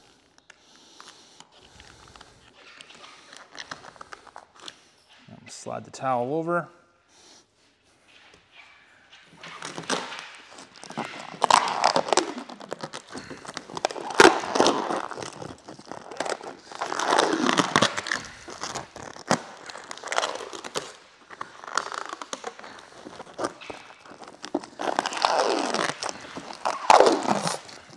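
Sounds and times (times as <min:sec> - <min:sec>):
plastic film crackling and snapping: 0:00.3 - 0:05.0, 0:09.2 - 0:27.9.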